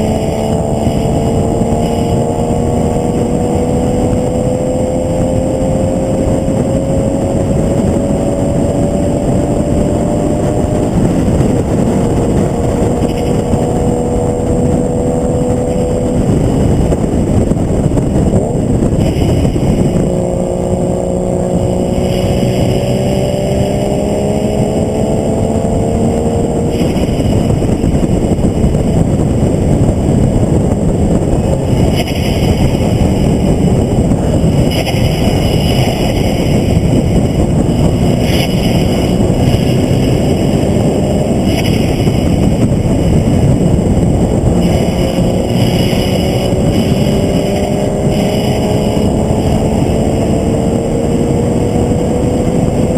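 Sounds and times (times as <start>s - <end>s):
engine revving: 0.0s - 52.9s
wind and road rush: 0.0s - 52.9s.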